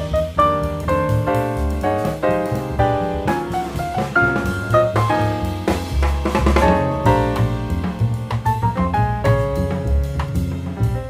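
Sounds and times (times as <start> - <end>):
drum kit beat: 0.0 - 11.0
jazz piano: 0.0 - 11.0.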